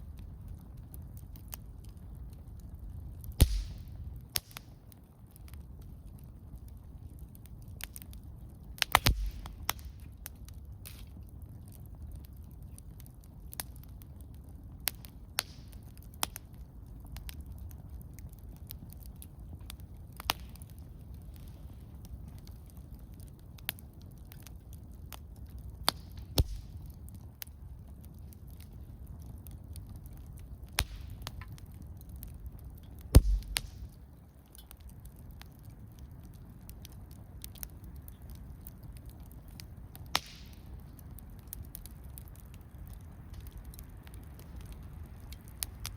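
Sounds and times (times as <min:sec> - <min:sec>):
campfire pops and snaps: 0:00.0 - 0:45.9
fire burning rumble: 0:00.0 - 0:45.9.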